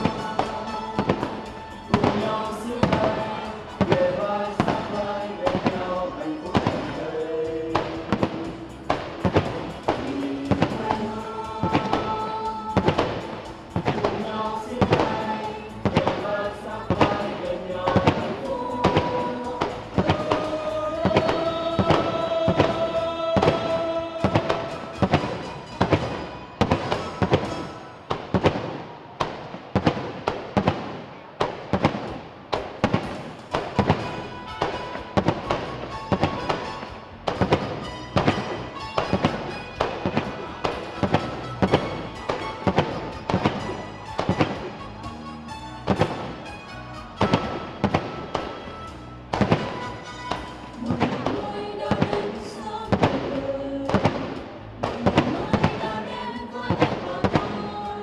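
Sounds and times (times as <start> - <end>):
music playing: 0.0 - 28.8, 31.8 - 58.0
fireworks shells bursting: 0.0 - 56.0.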